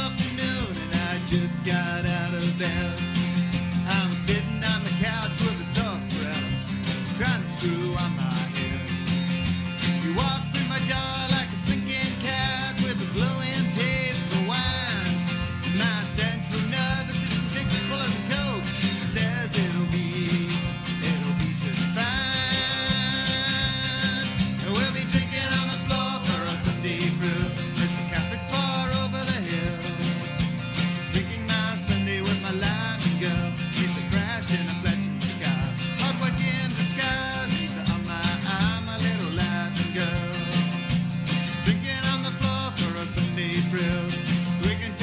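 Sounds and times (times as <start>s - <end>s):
country band playing: 0.0s - 45.0s.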